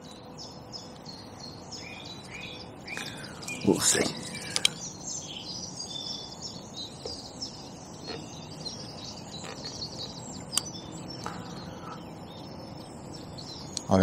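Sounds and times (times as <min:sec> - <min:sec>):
birds chirping and trilling: 0:00.0 - 0:14.0
low background hum: 0:00.0 - 0:14.0.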